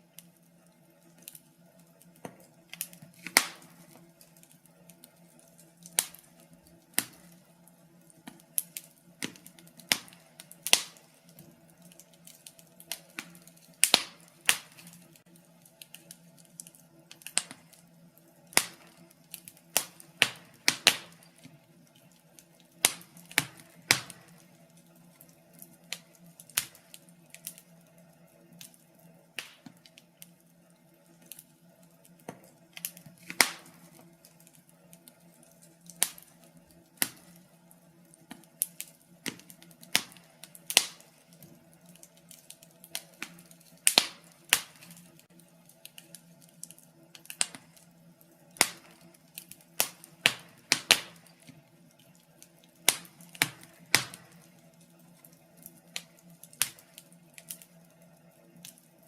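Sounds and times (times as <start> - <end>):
faint steady hum: 0.0 - 59.0
wood fire crackling: 0.0 - 59.0.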